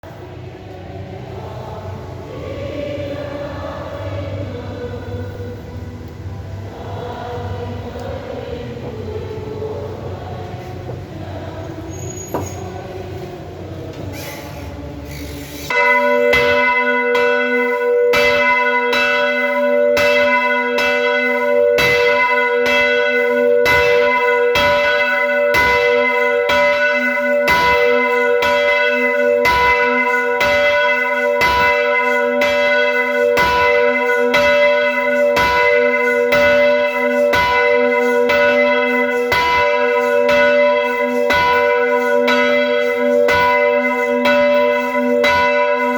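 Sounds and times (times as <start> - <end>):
church bells pealing: 1.1 - 45.9.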